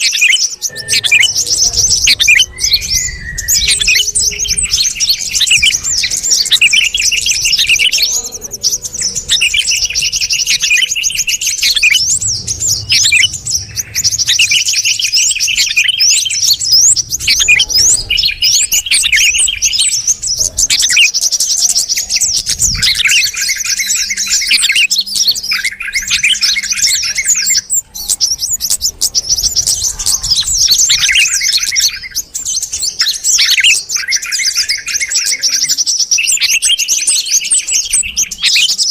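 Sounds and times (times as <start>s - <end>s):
bulbul calls: 0.0s - 38.9s.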